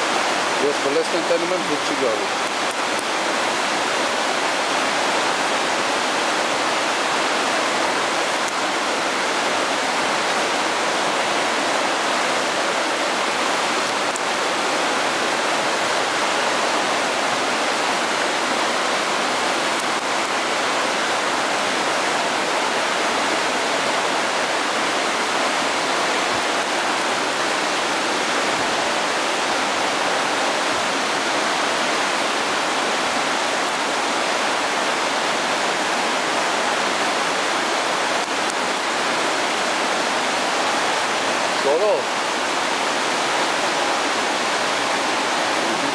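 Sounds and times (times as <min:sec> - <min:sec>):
river rushing through rapids: 0:00.0 - 0:45.9.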